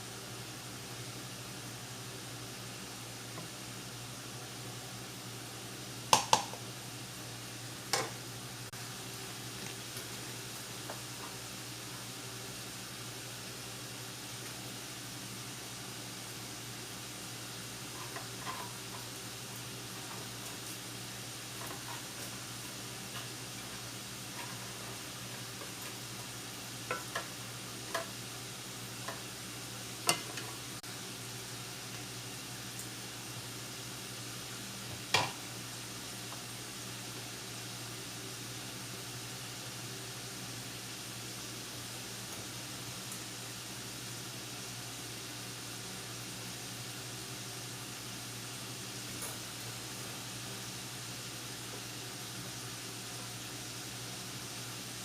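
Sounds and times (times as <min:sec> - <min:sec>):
faint sizzle: 0:00.0 - 0:55.0
steady hiss: 0:00.0 - 0:55.0.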